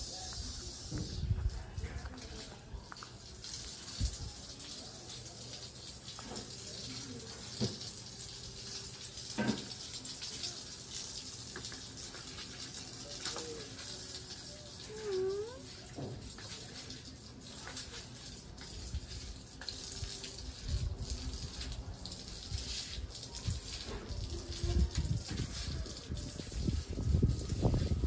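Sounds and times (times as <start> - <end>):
water running and splashing: 0.0 - 28.0.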